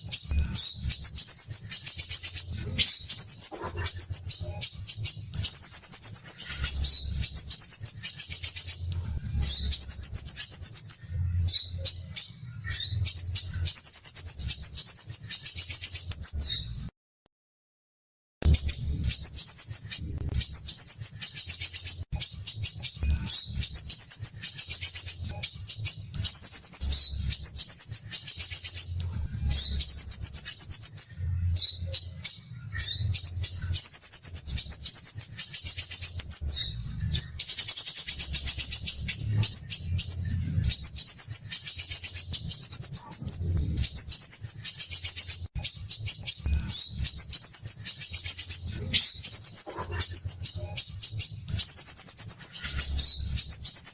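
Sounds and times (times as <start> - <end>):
bird singing rasping trills: 0.0 - 16.9, 18.4 - 53.9.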